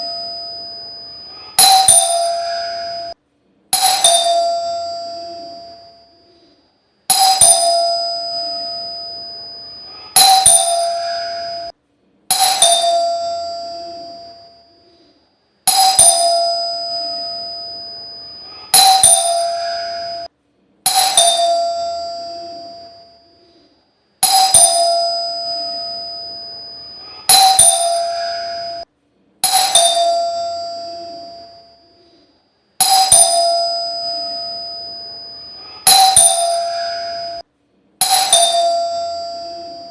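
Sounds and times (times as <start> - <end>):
electric doorbell chime: 0.0 - 3.2, 3.8 - 6.4, 7.1 - 14.9, 15.7 - 20.3, 20.9 - 23.4, 24.2 - 32.0, 32.8 - 37.4, 38.0 - 39.9.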